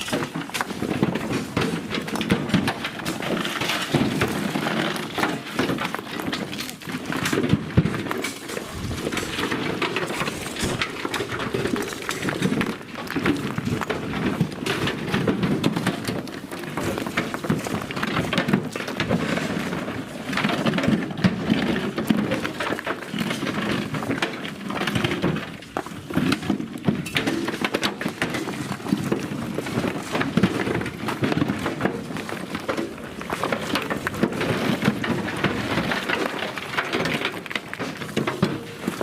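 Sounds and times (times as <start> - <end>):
stone ballast pouring and rattling: 0.0 - 39.0.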